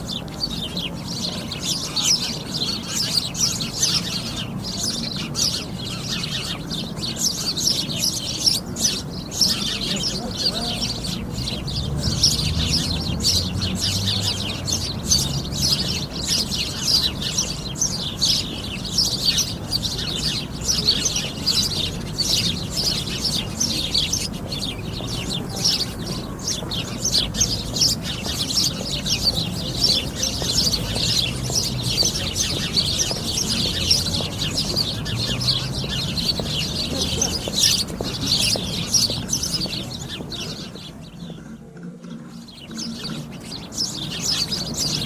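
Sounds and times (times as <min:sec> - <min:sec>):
sparrows chirping: 0:00.0 - 0:45.0.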